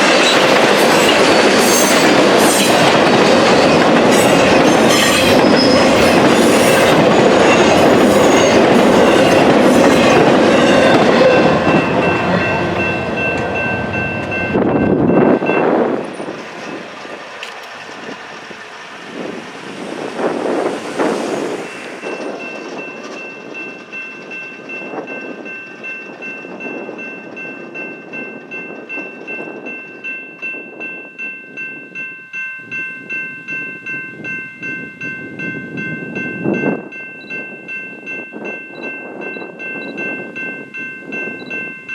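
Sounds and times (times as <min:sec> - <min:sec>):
train rail and wheel noise: 0:00.0 - 0:41.9
high ringing tones: 0:04.4 - 0:16.7, 0:20.5 - 0:41.9.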